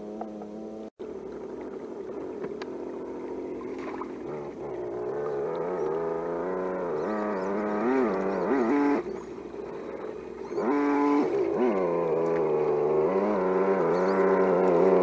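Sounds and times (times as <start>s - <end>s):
simulated engine revving: 0.0s - 0.9s, 2.1s - 15.0s.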